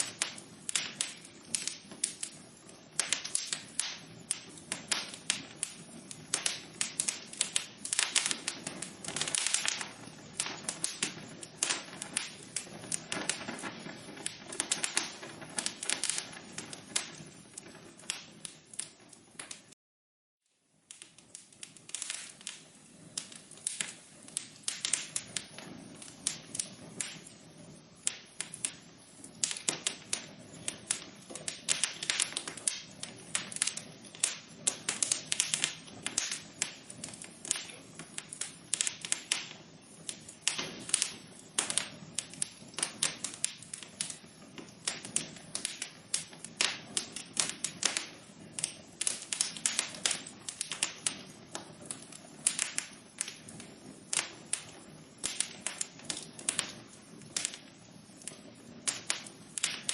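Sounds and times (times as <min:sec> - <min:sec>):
fire crackling in a fireplace: 0:00.0 - 0:19.8, 0:20.4 - 0:59.9.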